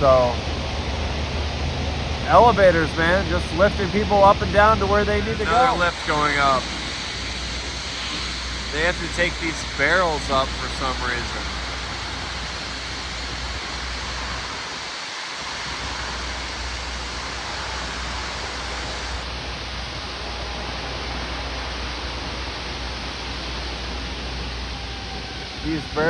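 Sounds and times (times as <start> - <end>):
loud rushing noise: 0.0 - 26.0
low rumble: 0.0 - 26.0.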